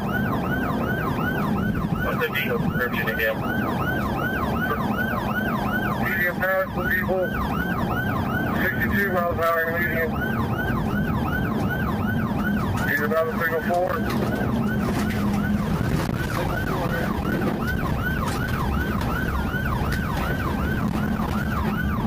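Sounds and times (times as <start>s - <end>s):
police siren yelping: 0.0s - 22.0s
road noise: 0.0s - 22.0s.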